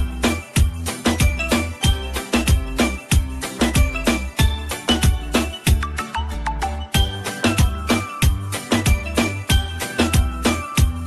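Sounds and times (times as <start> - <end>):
upbeat music with bass: 0.0 - 11.0.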